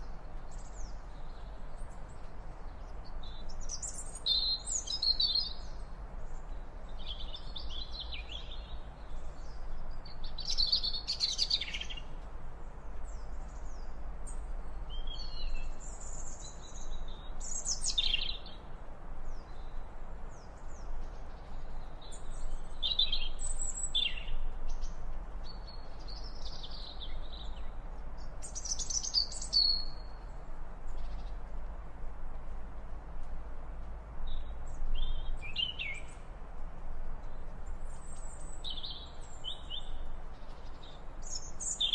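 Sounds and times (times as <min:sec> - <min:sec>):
small birds chirping and singing: 0:00.0 - 0:31.8, 0:33.2 - 0:41.9
low background noise: 0:00.0 - 0:41.9.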